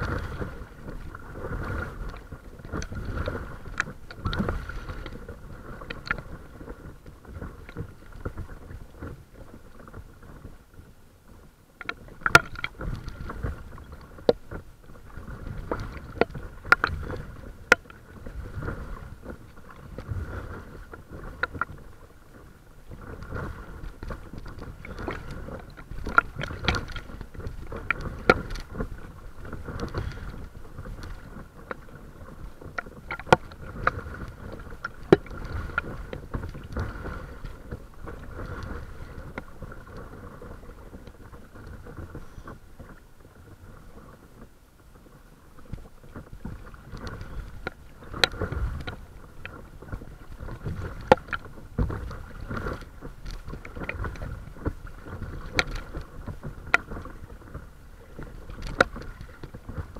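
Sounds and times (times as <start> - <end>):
wash of moving water: 0.0 - 59.9
water splashing against boat bow: 0.0 - 59.9.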